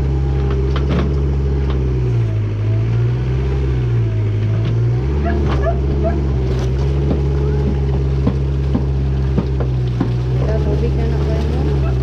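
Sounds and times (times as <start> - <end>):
backhoe engine running: 0.0 - 12.0.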